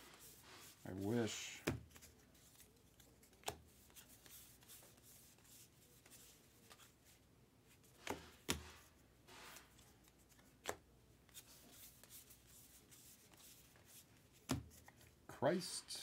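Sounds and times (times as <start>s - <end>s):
cards sliding and rustling: 0.0s - 16.0s.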